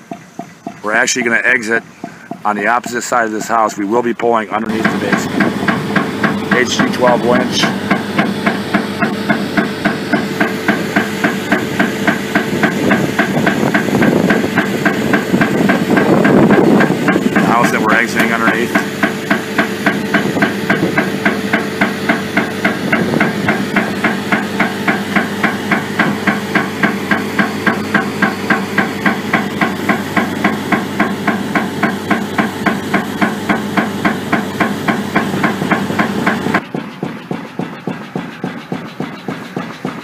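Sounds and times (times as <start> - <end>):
engine-driven equipment humming: 0.0 - 40.0
pneumatic hammer pounding: 0.0 - 40.0.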